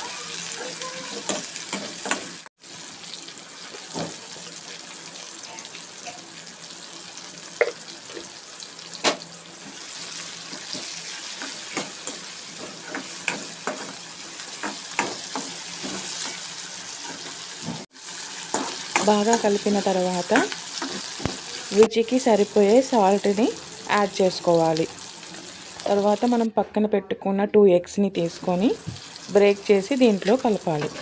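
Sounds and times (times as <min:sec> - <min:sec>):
vegetables sizzling in oil: 0:00.0 - 0:26.5, 0:28.2 - 0:31.0.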